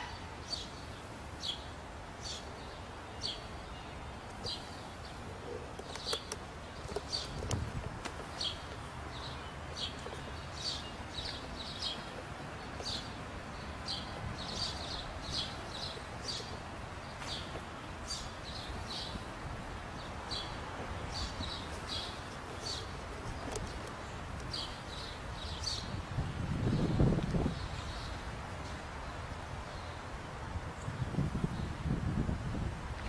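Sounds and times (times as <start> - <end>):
small birds chirping: 0.0 - 32.2.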